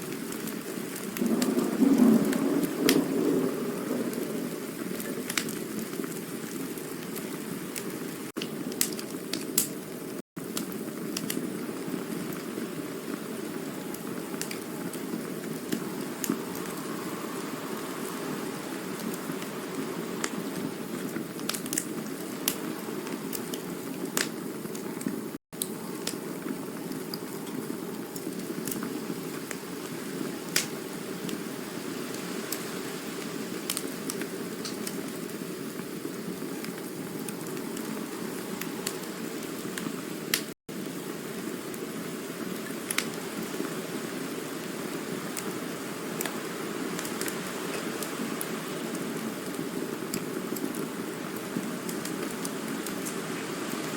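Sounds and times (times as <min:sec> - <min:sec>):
burning wood crackling and popping: 0:00.0 - 0:53.9
campfire hissing: 0:00.0 - 0:53.9.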